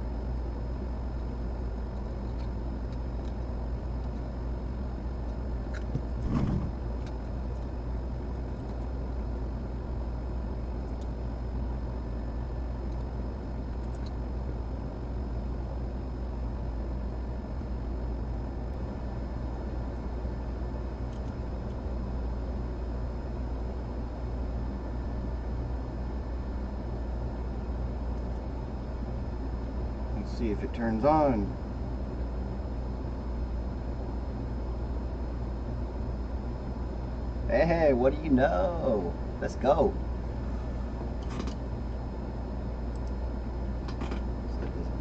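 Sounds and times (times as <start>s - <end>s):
low rumbling background noise: 0.0s - 45.0s.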